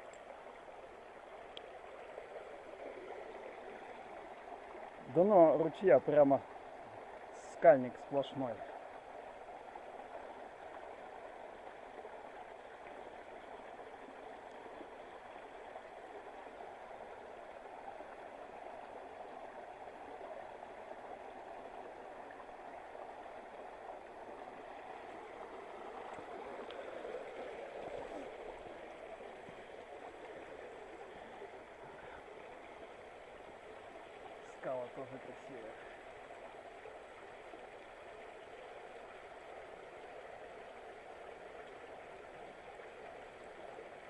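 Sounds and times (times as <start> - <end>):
creek flowing over bedrock: 0.0 - 44.0.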